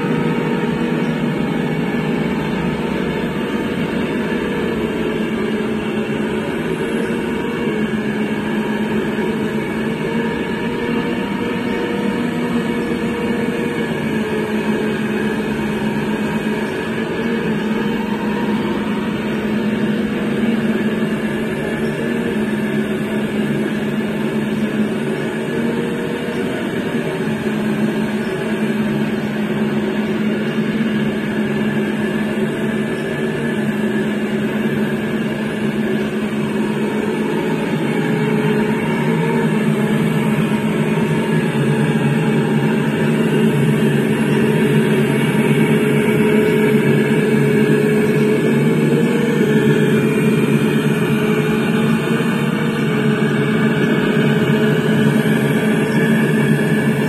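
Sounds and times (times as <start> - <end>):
model excavator electric whine: 0.0 - 57.0.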